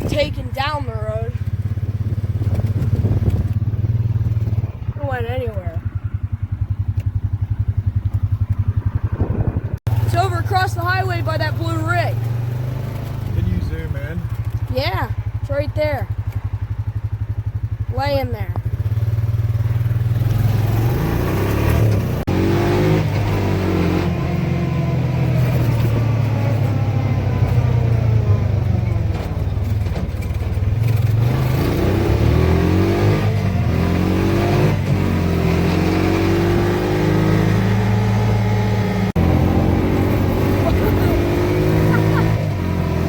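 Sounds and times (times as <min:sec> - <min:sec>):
highway traffic hum: 0:00.0 - 0:43.0
vehicles passing: 0:00.0 - 0:43.0.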